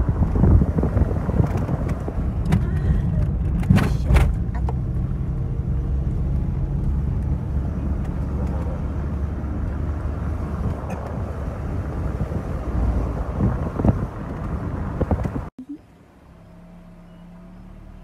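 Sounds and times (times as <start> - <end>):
wind buffeting microphone: 0.0 - 15.5
vehicle rumble: 0.0 - 18.0.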